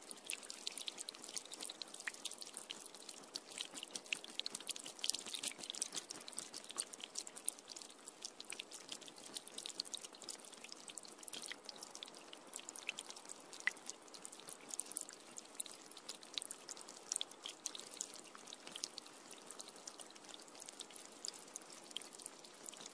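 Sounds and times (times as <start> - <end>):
rain drops pattering: 0.0 - 22.9.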